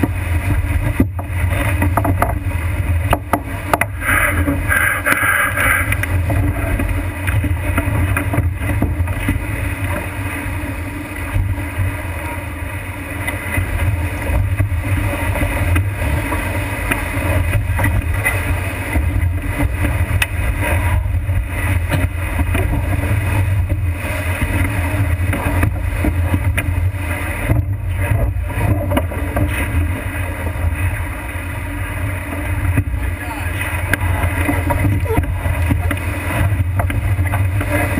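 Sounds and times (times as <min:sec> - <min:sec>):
water rushing past hull: 0:00.0 - 0:37.9
waves knocking on hull: 0:00.0 - 0:37.9.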